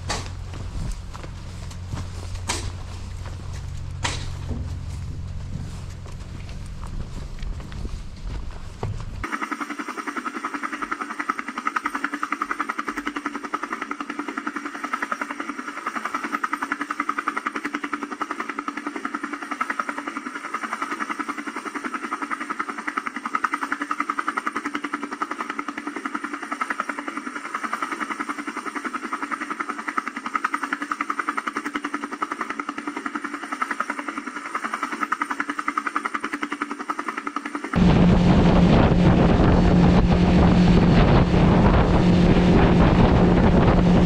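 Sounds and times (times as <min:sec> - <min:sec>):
drone rotors whirring: 0:00.0 - 0:44.0.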